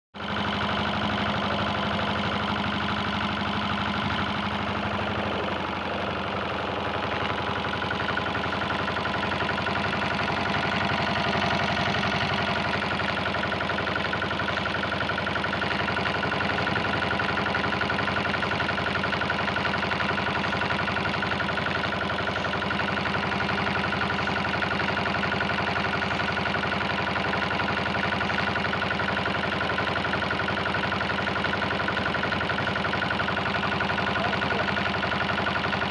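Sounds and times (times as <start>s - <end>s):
engine running steadily: 0.2s - 35.9s.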